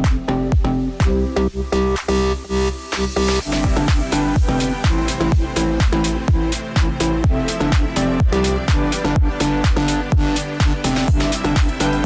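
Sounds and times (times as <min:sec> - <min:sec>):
electronic dance music: 0:00.0 - 0:12.0
held synth chords: 0:00.0 - 0:12.0
steady kick drum: 0:00.0 - 0:12.0.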